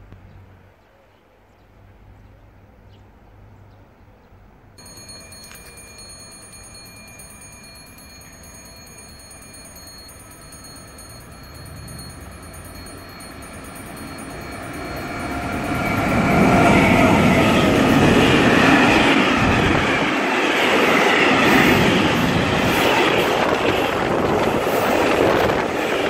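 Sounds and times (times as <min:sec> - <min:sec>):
railway warning bell ringing: 0:04.8 - 0:26.0
train rumble: 0:04.8 - 0:26.0.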